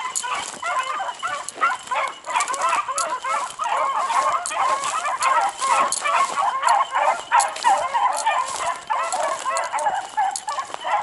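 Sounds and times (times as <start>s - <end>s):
pack of dogs baying: 0.0s - 11.0s.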